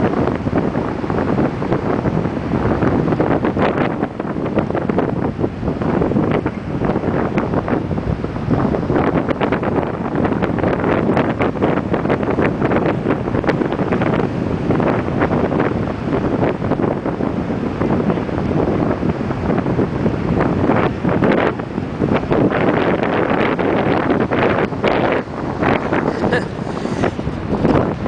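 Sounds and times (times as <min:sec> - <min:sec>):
ocean surf breaking: 0:00.0 - 0:28.0
wind buffeting microphone: 0:00.0 - 0:28.0.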